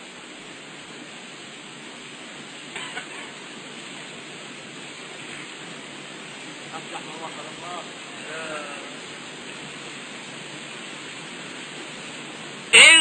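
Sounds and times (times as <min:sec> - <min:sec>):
recording hiss: 0:00.0 - 0:13.0.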